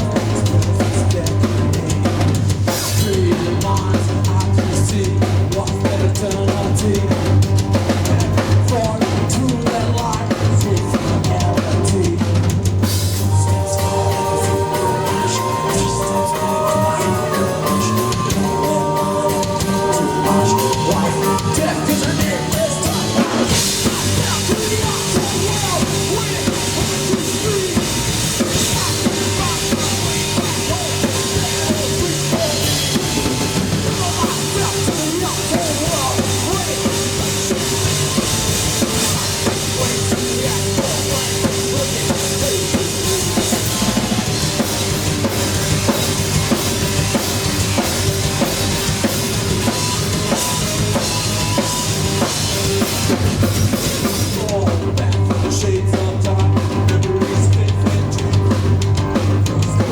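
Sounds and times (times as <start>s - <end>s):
drum kit playing: 0.0s - 59.9s
live rock band playing: 0.0s - 59.9s.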